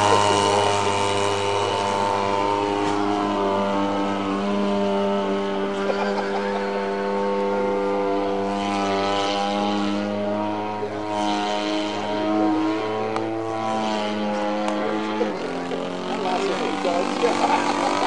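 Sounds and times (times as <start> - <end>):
model plane engine running: 0.0 - 18.0.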